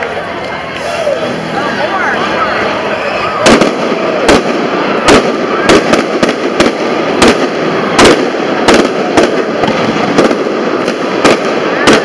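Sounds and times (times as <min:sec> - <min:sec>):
crowd noise: 0:00.0 - 0:12.0
fireworks banging: 0:00.0 - 0:12.0.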